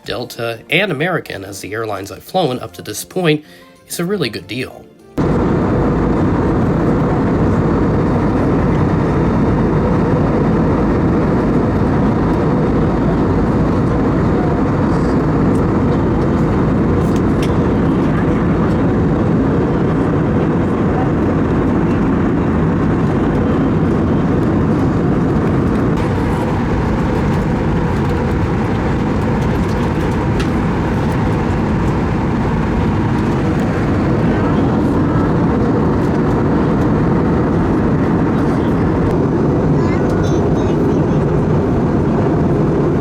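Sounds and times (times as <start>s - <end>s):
airliner cabin engine rush: 5.2s - 43.0s.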